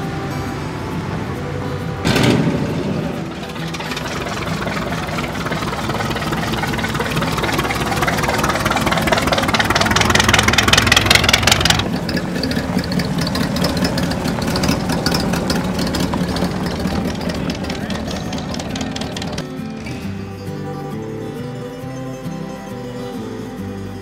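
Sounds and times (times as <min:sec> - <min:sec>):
car engine running: 0:00.0 - 0:20.8.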